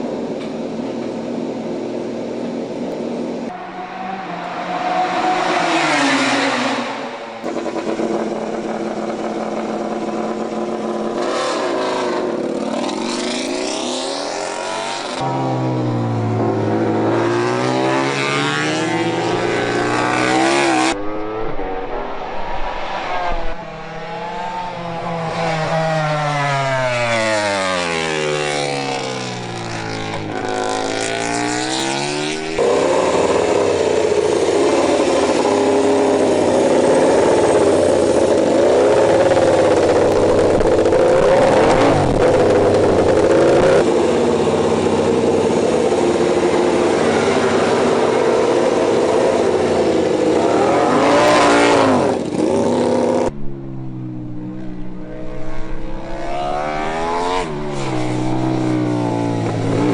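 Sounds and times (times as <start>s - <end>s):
racing motorcycle engines revving: 2.1s - 59.9s.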